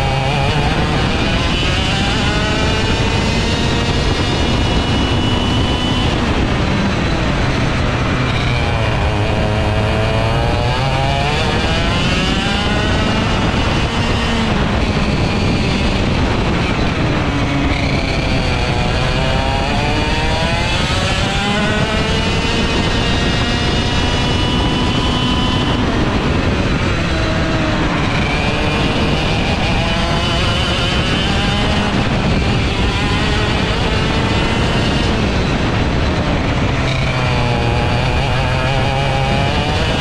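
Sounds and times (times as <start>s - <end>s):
kart engine racing at high revs: 0.0s - 40.0s.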